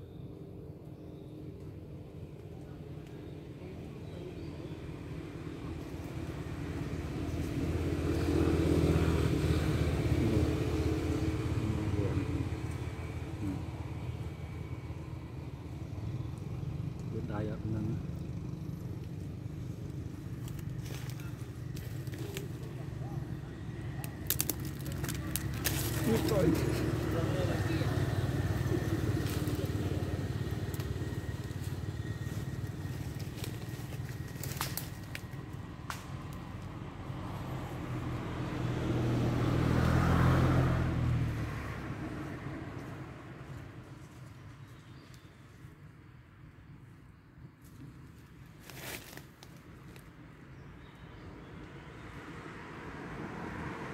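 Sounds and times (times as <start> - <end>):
passing vehicle engine hum: 0.0 - 53.9.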